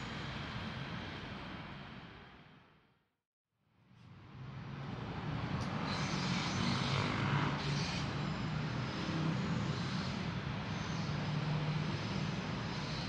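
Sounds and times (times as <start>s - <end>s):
electric train running past: 0.0s - 2.8s, 4.5s - 13.0s.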